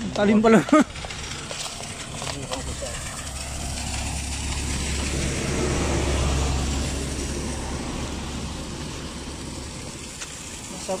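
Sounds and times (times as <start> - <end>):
passing vehicle engine rumble: 0.0 - 11.0.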